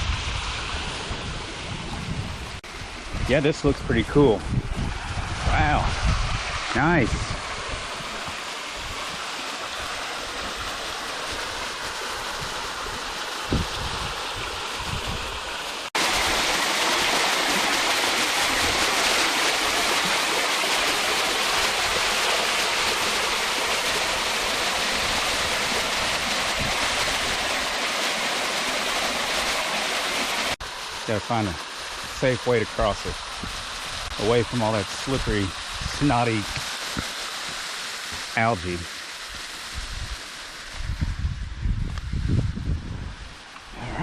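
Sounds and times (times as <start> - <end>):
waterfall rushing and splashing: 0.0 - 41.0.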